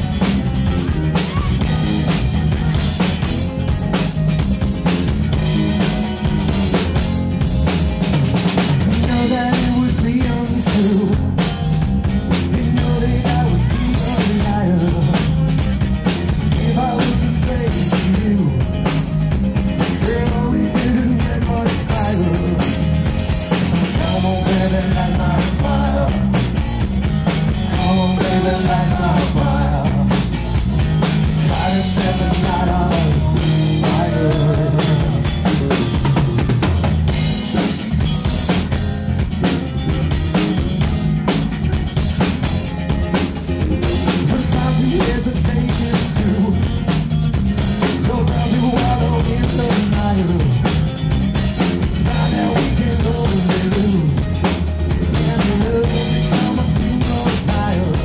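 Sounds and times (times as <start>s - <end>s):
bass line: 0.0s - 58.0s
drum kit: 0.0s - 58.0s
electric guitar: 0.0s - 58.0s.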